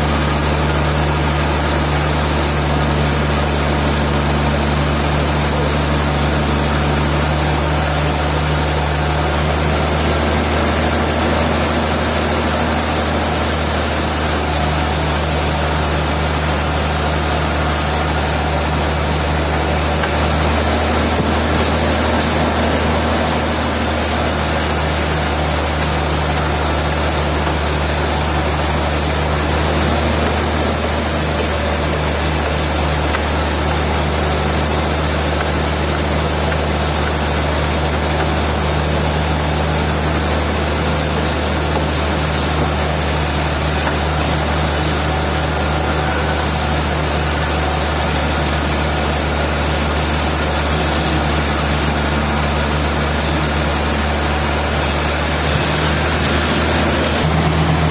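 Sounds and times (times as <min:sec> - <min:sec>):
sawmill machinery droning: 0:00.0 - 0:57.9.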